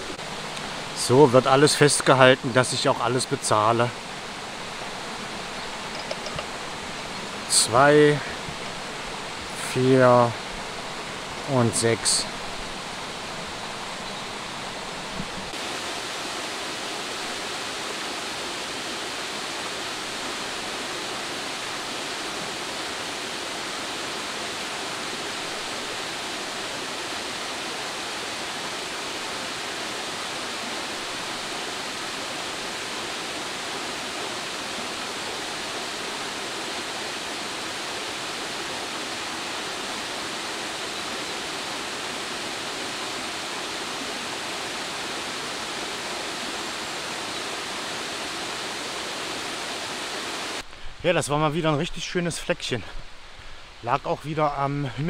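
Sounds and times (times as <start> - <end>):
waterfall rushing: 0.0 - 52.3.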